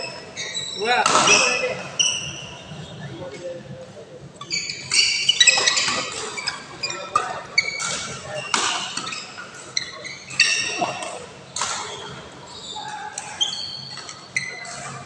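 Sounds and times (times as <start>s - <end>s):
shoes squeaking on court: 0.0s - 3.5s, 4.4s - 15.0s.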